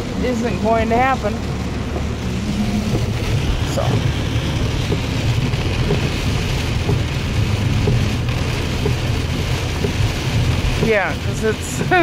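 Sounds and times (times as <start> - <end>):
engine and tyre rumble: 0.0 - 12.0
heavy rain on car: 0.0 - 12.0.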